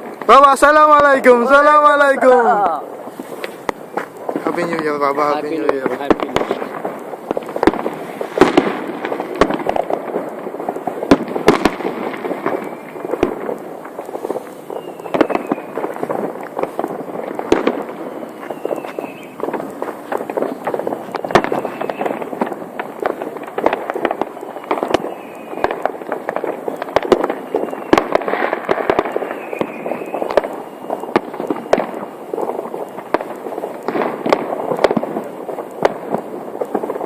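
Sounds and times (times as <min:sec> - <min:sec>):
fireworks bangs and crackling: 0:00.0 - 0:37.0
fireworks whistle: 0:00.0 - 0:37.0.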